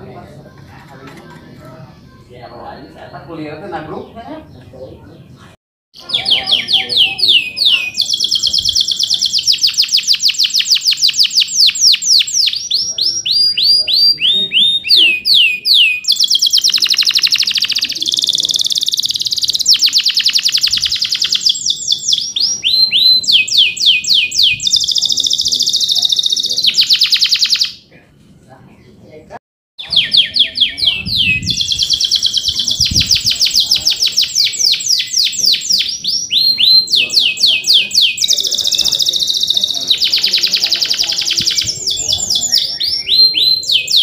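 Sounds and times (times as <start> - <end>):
canary singing trills and chirps: 2.0 - 27.8, 29.8 - 44.0.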